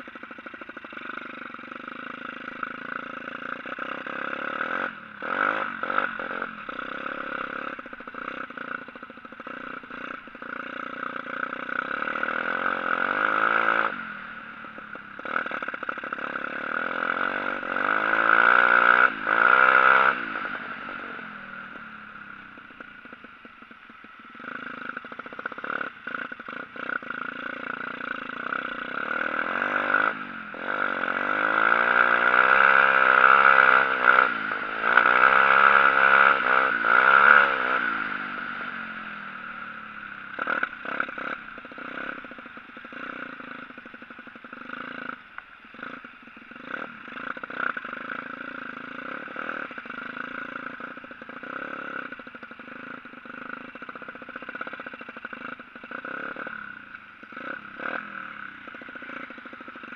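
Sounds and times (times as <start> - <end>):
pit bike engine revving: 0.0 - 59.9.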